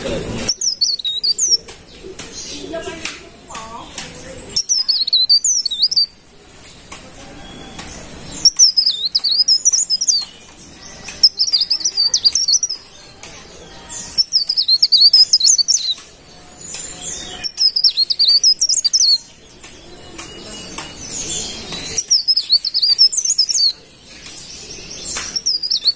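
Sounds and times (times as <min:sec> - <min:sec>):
bird singing twittering song: 0:00.0 - 0:25.9.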